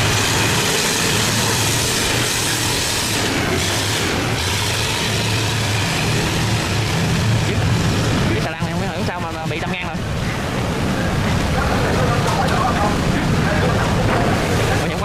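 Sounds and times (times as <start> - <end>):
boat engine droning: 0.0 - 15.0
constant rushing noise: 0.0 - 15.0.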